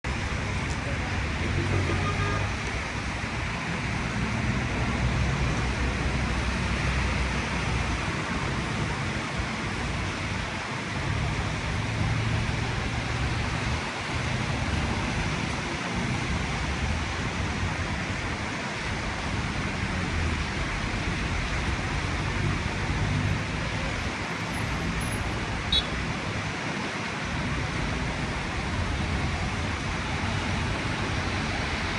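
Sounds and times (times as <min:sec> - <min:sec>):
road traffic rumble: 0:00.0 - 0:31.9
vehicle engines passing: 0:00.0 - 0:31.9.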